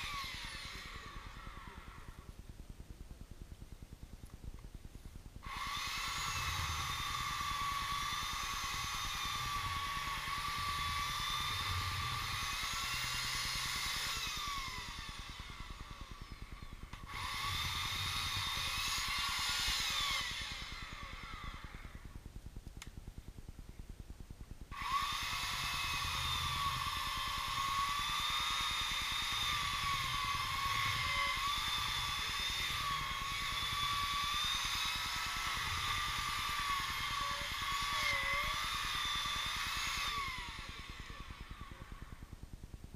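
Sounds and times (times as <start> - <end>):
high-pitched motor whine: 0.0 - 2.5, 5.4 - 22.3, 24.6 - 42.6.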